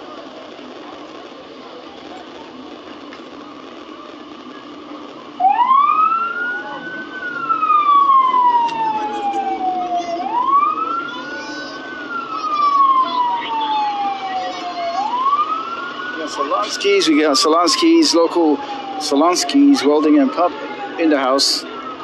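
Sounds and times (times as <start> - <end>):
emergency vehicle siren wailing: 3.6 - 22.0.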